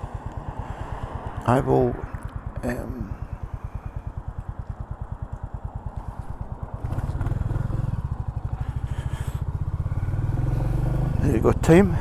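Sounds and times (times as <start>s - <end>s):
motorcycle engine ticking over: 0.0s - 12.0s.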